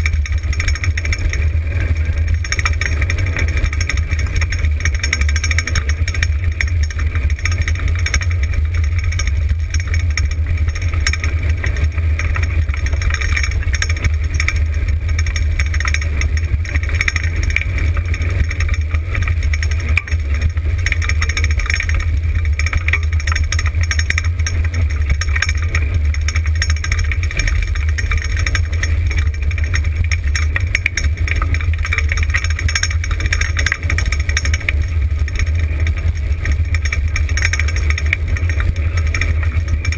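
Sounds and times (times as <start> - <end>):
wheels rolling over gravel: 0.0 - 39.9.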